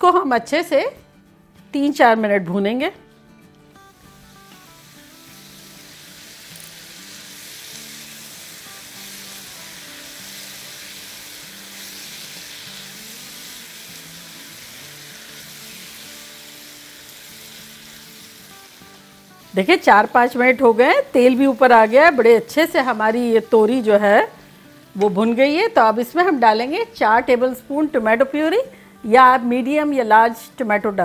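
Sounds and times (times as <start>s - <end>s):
vegetables sizzling in hot oil: 3.7s - 31.0s.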